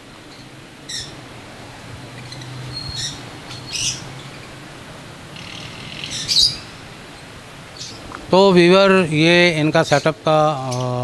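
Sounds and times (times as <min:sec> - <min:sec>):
parrots chirping: 0:00.0 - 0:11.0.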